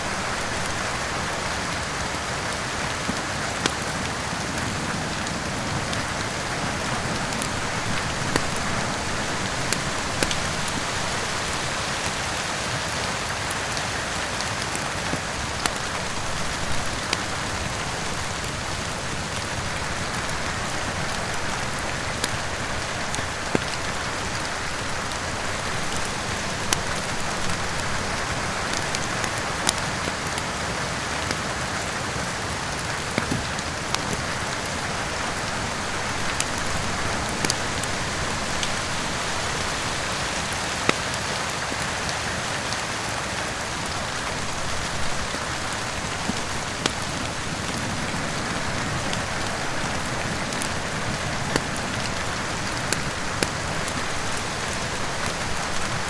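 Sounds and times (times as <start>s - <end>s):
heavy rain: 0.0s - 56.0s
wood fire crackling: 0.0s - 56.0s.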